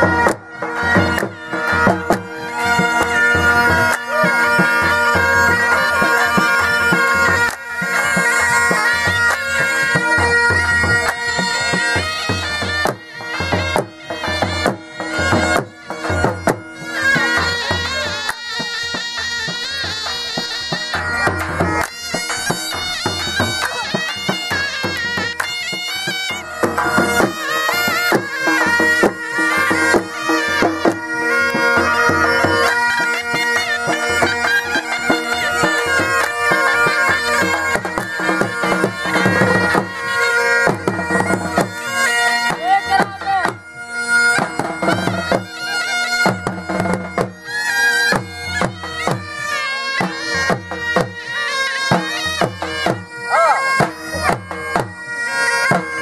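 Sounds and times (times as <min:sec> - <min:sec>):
reedy pipe melody with drone: 0:00.0 - 0:56.0.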